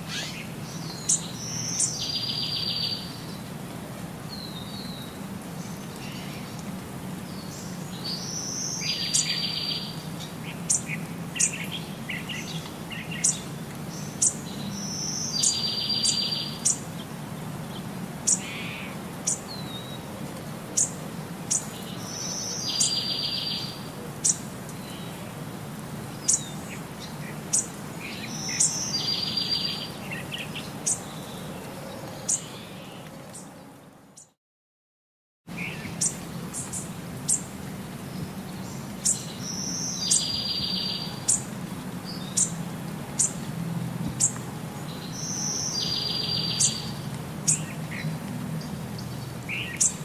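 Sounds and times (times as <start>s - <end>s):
birds chirping: 0.0s - 3.5s, 7.2s - 20.0s, 20.7s - 25.3s, 26.1s - 34.4s, 35.5s - 43.5s, 44.1s - 50.0s.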